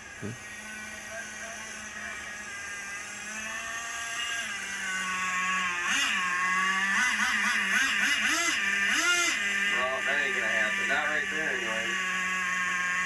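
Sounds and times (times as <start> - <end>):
toy truck motor whining: 0.0 - 13.0.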